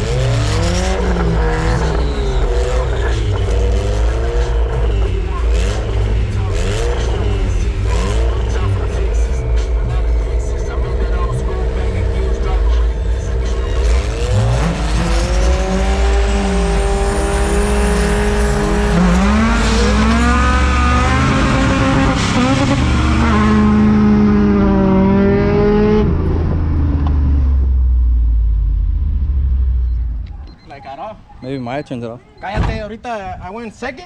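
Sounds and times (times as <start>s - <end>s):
car engine revving at full throttle: 0.0s - 30.3s.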